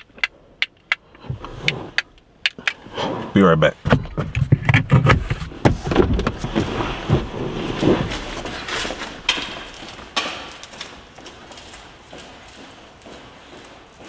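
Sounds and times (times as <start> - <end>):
rustling of movement: 0.0 - 14.0.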